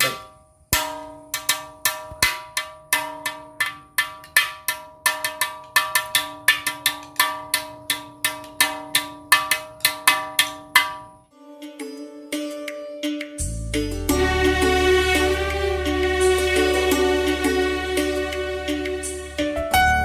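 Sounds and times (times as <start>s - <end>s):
bow instrument struck with stick: 0.0s - 11.3s, 11.9s - 20.0s.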